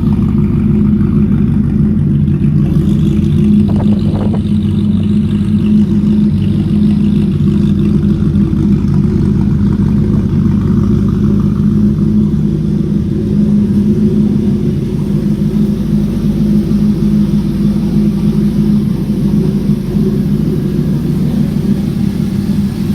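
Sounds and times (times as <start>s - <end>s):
supercharged truck engine idling: 0.0s - 22.9s.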